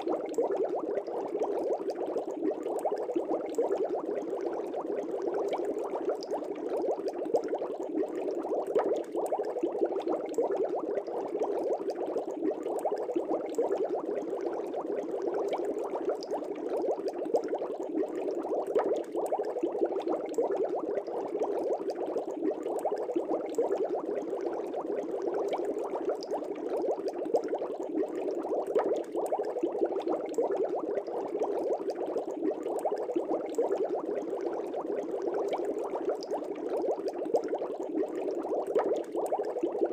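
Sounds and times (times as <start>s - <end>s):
aquarium air bubbling: 0.0s - 39.9s.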